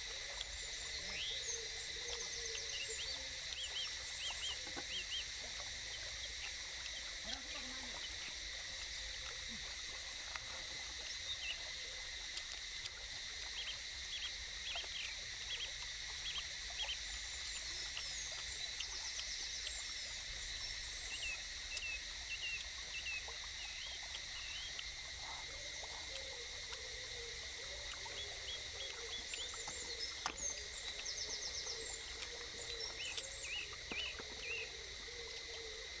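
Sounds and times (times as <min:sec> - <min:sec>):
high insect drone: 0:00.0 - 0:36.0.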